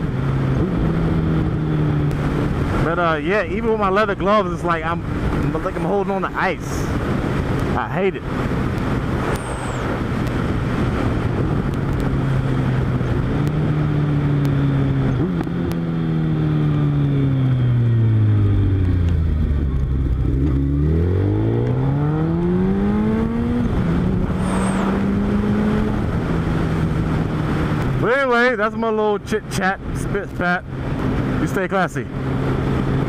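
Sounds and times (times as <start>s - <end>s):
motorcycle engine: 0.0s - 6.2s, 6.8s - 33.0s
wind noise: 0.0s - 33.0s.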